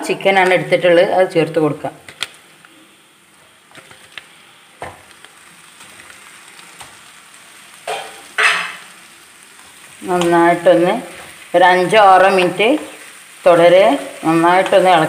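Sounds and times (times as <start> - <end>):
chicken sizzling in a hot pan: 2.4 - 15.0.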